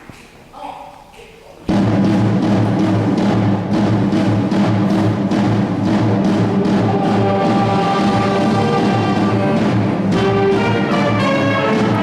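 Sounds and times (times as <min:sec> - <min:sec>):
concert band playing: 0:01.7 - 0:12.0
steady drum beat: 0:01.7 - 0:12.0.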